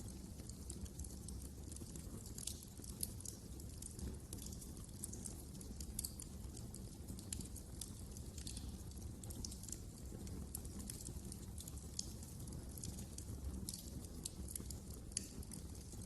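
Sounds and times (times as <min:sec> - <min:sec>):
low rumble of flames: 0:00.0 - 0:16.0
logs crackling and popping: 0:00.2 - 0:16.0.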